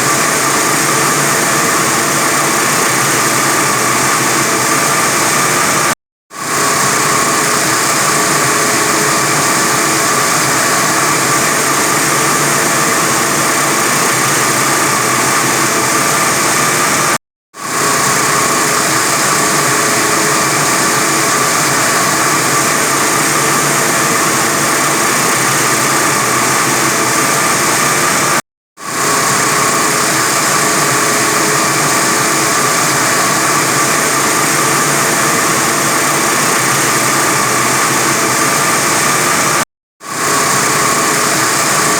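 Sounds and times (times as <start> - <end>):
steady whine: 0.0 - 41.9
wire saw drone: 0.0 - 41.9.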